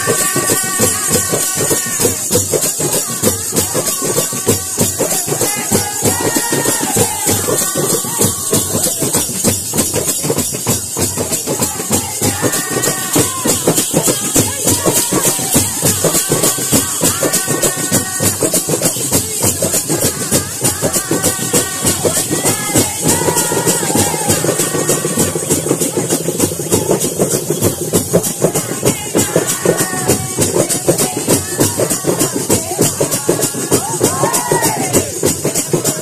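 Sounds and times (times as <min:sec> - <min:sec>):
hand drums beaten fast: 0:00.0 - 0:36.0
waist bells jingling: 0:00.0 - 0:36.0.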